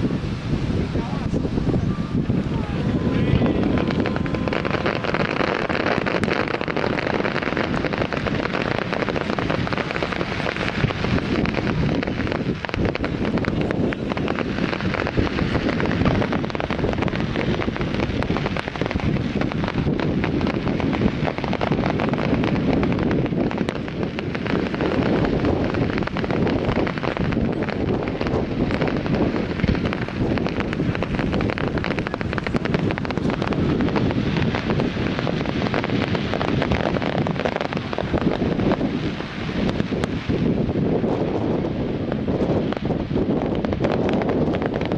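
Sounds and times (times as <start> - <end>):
fireworks crackling and banging: 0.0 - 44.9
wind rumbling on microphone: 0.0 - 44.9.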